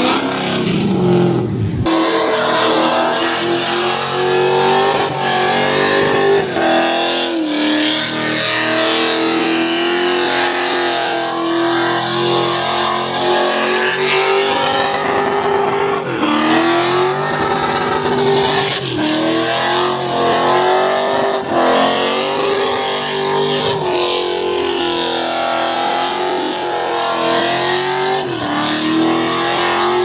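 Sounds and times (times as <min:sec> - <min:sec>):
car engine revving high: 0:00.0 - 0:30.0.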